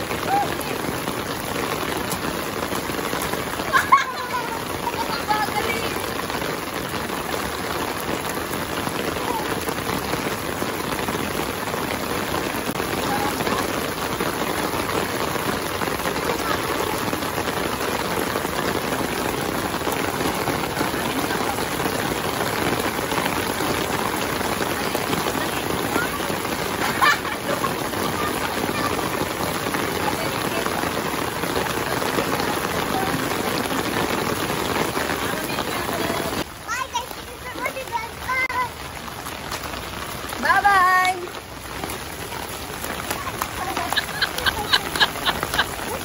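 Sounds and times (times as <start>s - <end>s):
rain on concrete roof: 0.0s - 46.0s.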